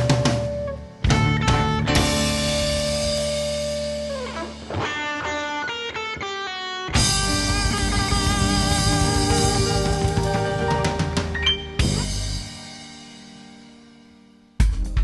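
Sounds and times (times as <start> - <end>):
live rock band playing: 0.0 - 13.7.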